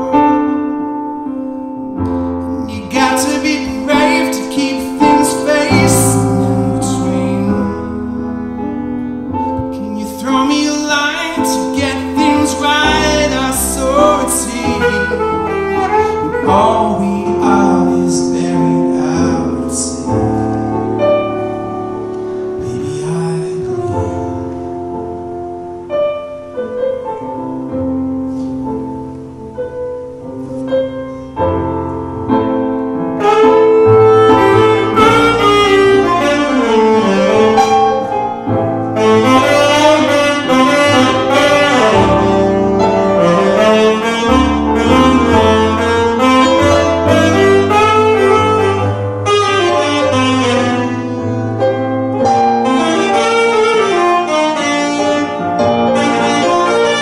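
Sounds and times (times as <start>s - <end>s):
piano chords: 0.0s - 57.0s
saxophone melody: 0.0s - 57.0s.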